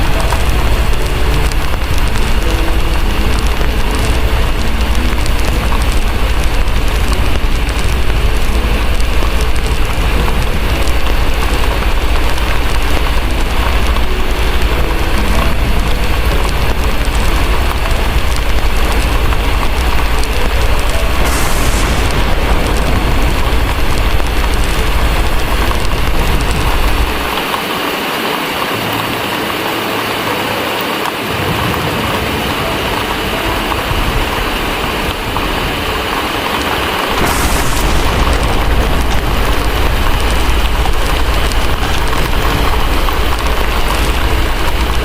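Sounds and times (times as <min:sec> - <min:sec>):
distant thunder rumbling: 0:00.0 - 0:27.6, 0:31.4 - 0:45.0
heavy rain pouring: 0:00.0 - 0:45.0.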